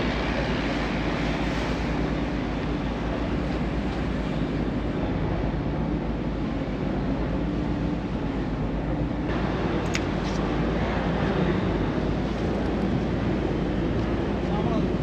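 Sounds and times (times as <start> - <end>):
constant rushing noise: 0.0 - 15.0.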